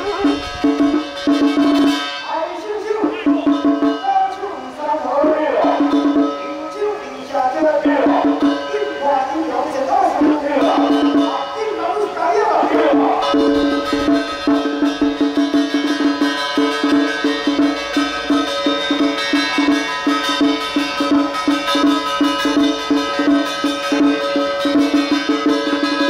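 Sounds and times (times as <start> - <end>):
held musical tones: 0.0 - 26.0
quick percussion beat: 0.0 - 26.0.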